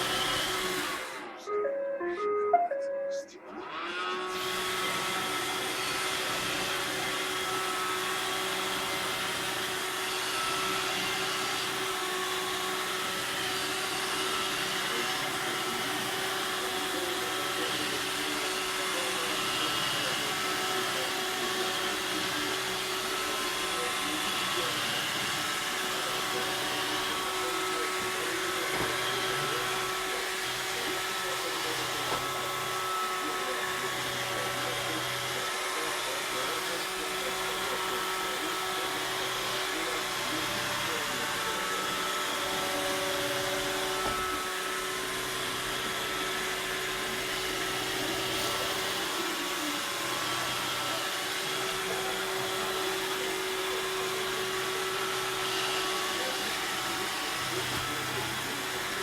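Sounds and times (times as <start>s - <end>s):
robot vacuum cleaner whirring: 0.0s - 2.4s, 3.5s - 59.0s.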